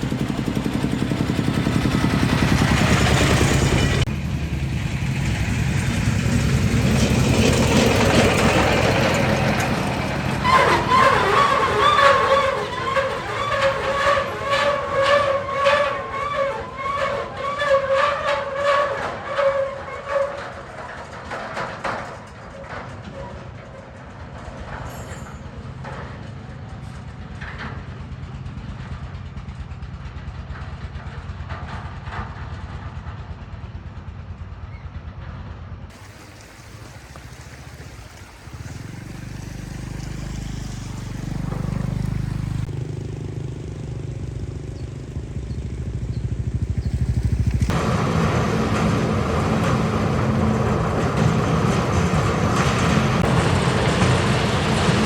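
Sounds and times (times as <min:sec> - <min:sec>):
engine running steadily: 0:00.0 - 0:17.4, 0:20.4 - 0:55.0.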